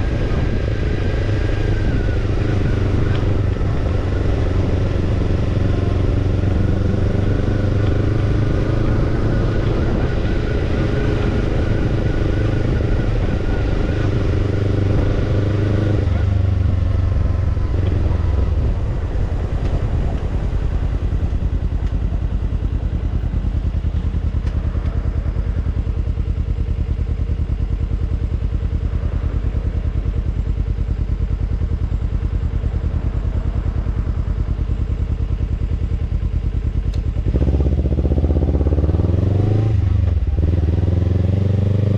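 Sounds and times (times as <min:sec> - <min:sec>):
motorcycle engine exhaust: 0:00.0 - 0:41.9.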